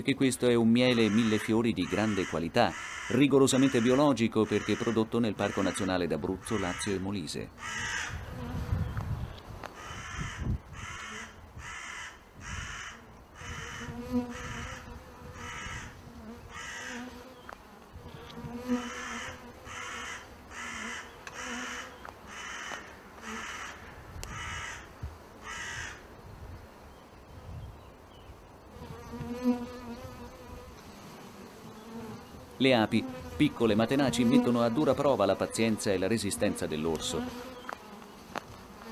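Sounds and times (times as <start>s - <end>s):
honeybees buzzing: 0.0s - 12.0s, 12.6s - 26.0s, 28.6s - 38.9s.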